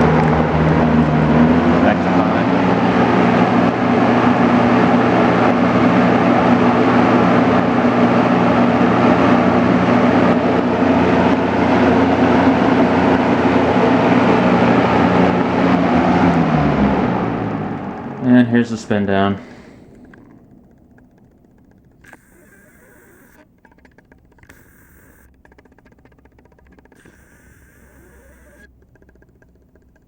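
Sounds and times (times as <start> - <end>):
box fan running: 0.0 - 30.0.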